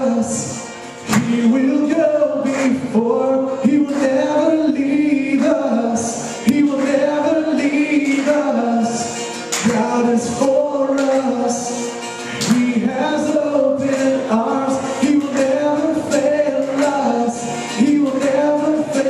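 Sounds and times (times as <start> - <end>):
acoustic guitar: 0.0 - 19.0
congregation singing: 0.0 - 19.0
man singing into a microphone: 0.0 - 19.0.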